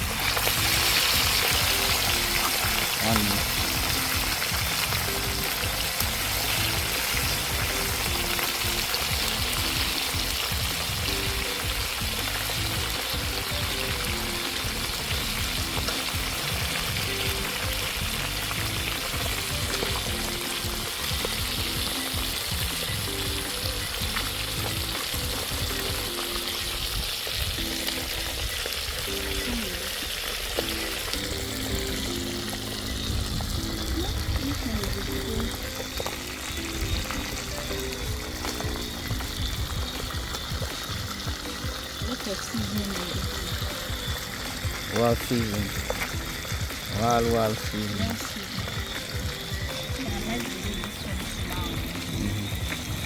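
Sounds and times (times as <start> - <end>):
fish sizzling in hot oil: 0.0 - 53.0.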